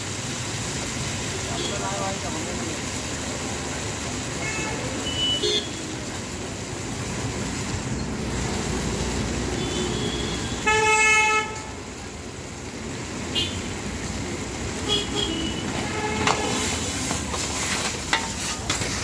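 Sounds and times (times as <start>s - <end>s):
sauce heating in a wok: 0.0s - 19.0s
street traffic rumble: 0.0s - 19.0s.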